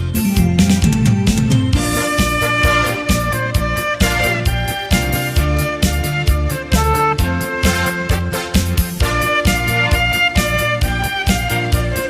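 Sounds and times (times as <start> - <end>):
bass line: 0.0 - 12.0
drum beat: 0.8 - 12.0
saxophone melody: 1.8 - 12.0.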